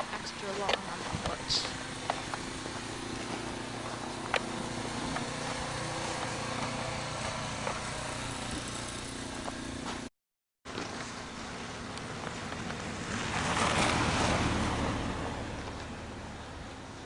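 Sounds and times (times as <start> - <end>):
car engine and road hum: 0.0 - 10.1, 10.7 - 17.0.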